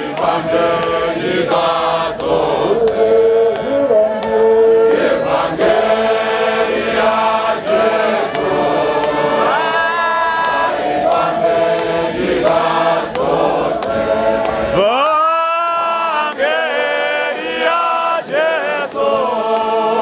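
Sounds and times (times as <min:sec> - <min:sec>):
church choir singing a hymn: 0:00.0 - 0:14.8, 0:15.8 - 0:20.0.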